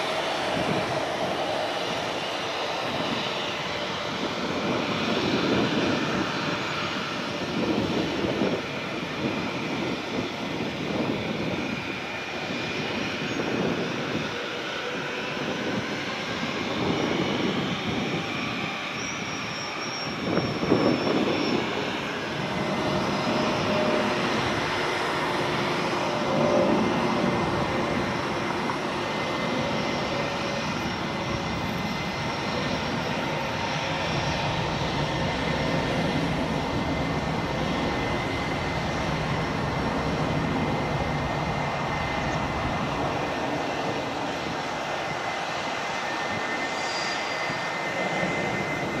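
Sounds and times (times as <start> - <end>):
high jet whine: 0.0 - 49.0
jet engines rumbling: 0.0 - 49.0.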